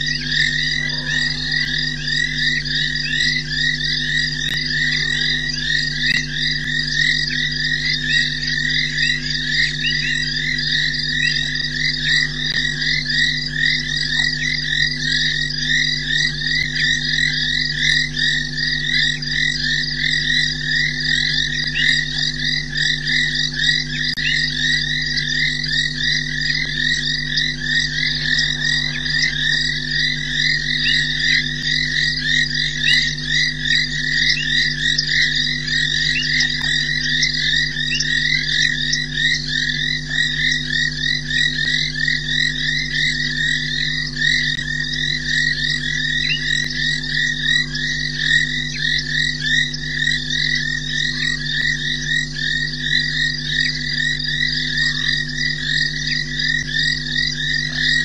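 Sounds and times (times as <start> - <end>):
frogs calling in chorus: 0.0 - 58.0
steady low hum: 0.0 - 58.0.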